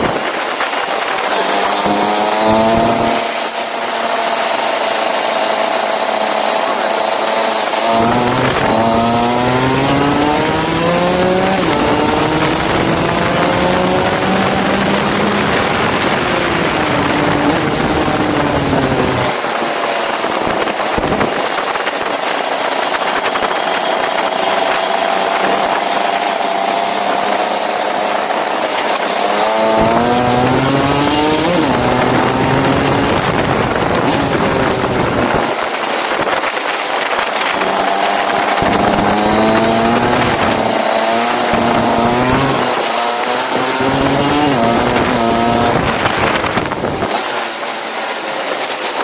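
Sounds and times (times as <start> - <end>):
go-kart engine revving: 0.0 - 49.0
steady rushing noise: 0.0 - 49.0.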